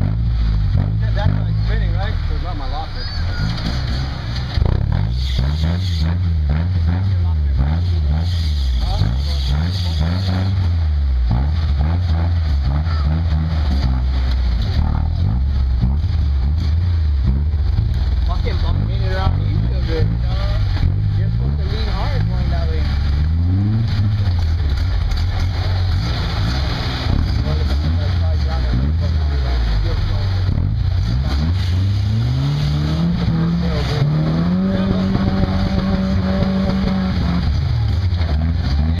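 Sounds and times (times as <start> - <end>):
truck engines rumbling: 0.0 - 39.0.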